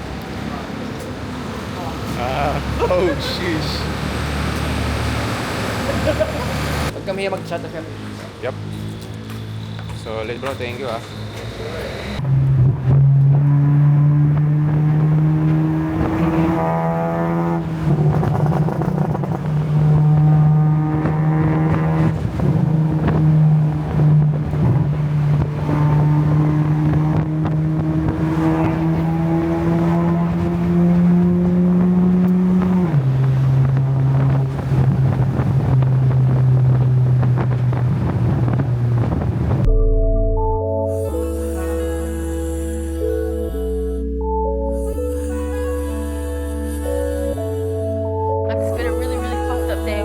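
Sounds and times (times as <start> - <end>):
road and wind rumble: 0.0 - 40.6, 46.7 - 50.0
car engine and exhaust drone: 0.0 - 43.8.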